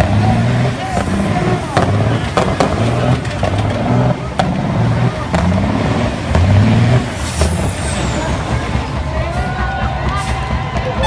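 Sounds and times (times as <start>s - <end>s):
truck diesel engine revving: 0.0s - 11.0s.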